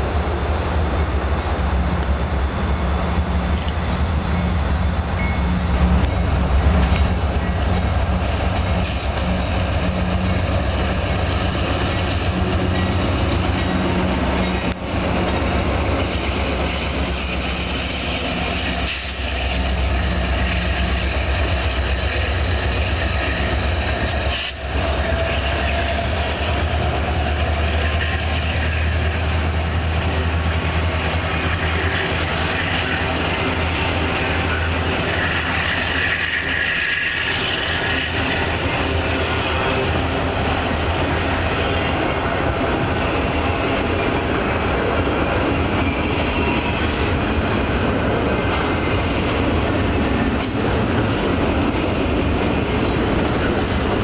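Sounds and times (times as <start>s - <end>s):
diesel locomotive engine drone: 0.0s - 54.0s
train wheels clattering on rails: 0.0s - 54.0s.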